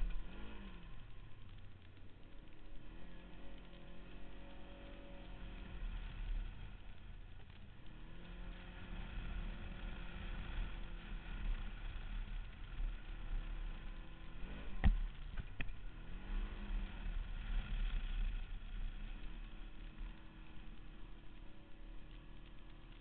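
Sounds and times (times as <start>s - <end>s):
buggy engine revving: 0.0s - 23.0s.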